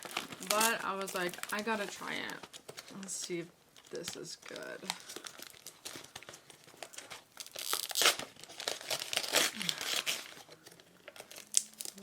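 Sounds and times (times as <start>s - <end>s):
cookie bag crinkling and tearing: 0.0s - 2.8s, 3.8s - 12.0s.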